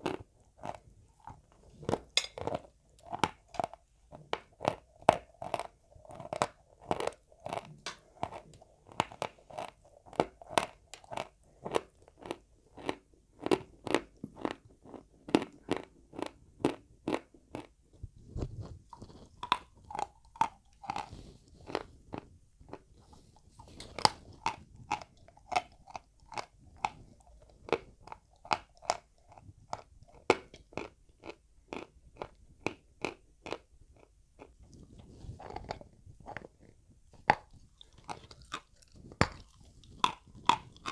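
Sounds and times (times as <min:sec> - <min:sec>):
chewing dry chalk crunches: 0:00.0 - 0:17.8, 0:18.4 - 0:40.9.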